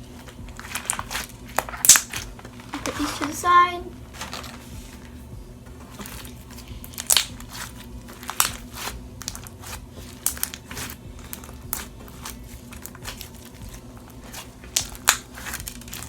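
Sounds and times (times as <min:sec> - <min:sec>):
beads and slime crinkling: 0:00.1 - 0:05.1, 0:05.8 - 0:16.0.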